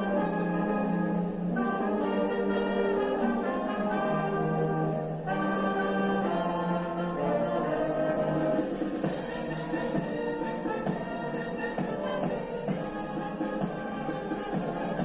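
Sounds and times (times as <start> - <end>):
brass and orchestra playing anthem: 0.0 - 15.0.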